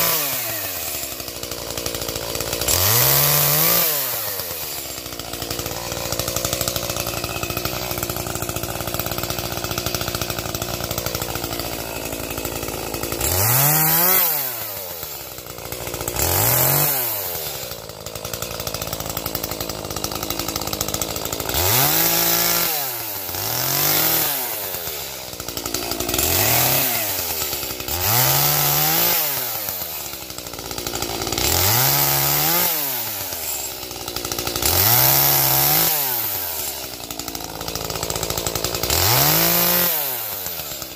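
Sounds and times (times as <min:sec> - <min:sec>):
chainsaw cutting and revving: 0:00.0 - 0:40.9.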